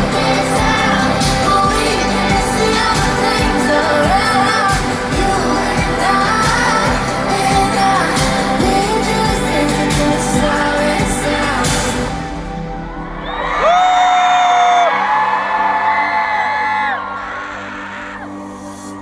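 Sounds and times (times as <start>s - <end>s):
live pop song over sound system: 0.0s - 19.0s.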